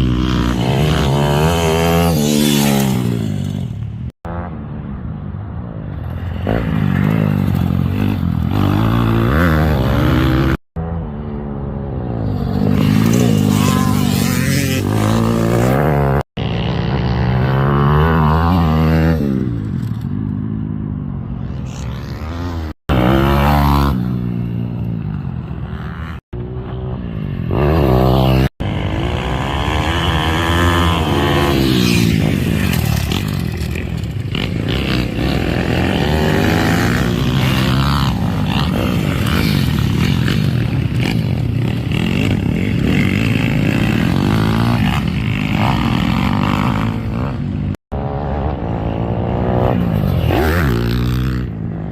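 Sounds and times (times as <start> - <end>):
pit bike engine revving: 0.0 - 4.6, 12.3 - 20.4, 21.4 - 51.6.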